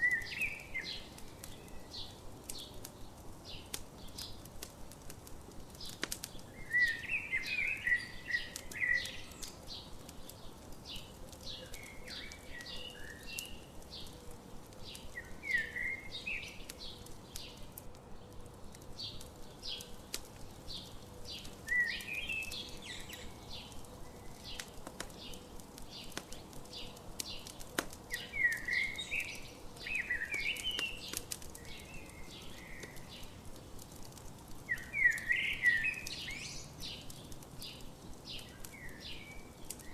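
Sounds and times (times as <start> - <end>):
campfire crackling: 0.0 - 39.9
songbirds singing: 0.0 - 39.9.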